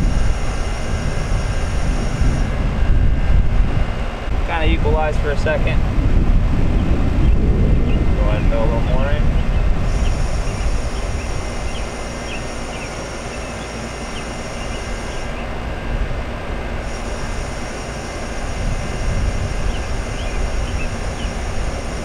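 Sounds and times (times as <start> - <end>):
air conditioner fan with rumble: 0.0 - 22.0
faint high whine: 0.0 - 22.0.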